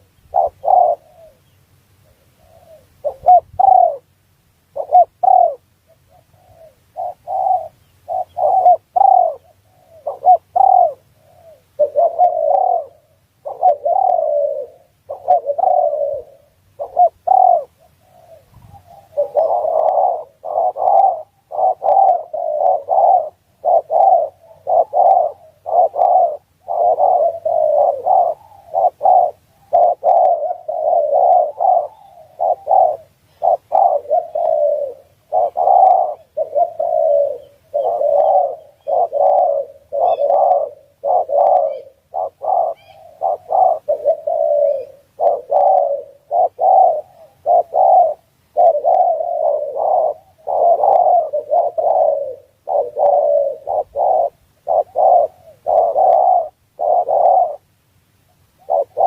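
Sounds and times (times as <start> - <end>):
dove cooing: 0.0 - 57.7, 58.4 - 59.0.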